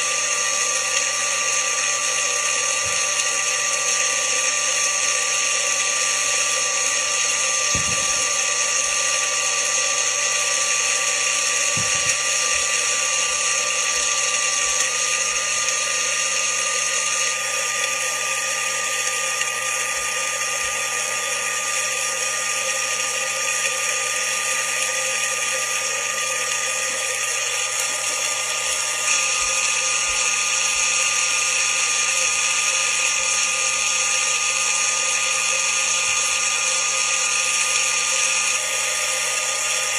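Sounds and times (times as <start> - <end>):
blender motor whine: 0.0 - 39.9.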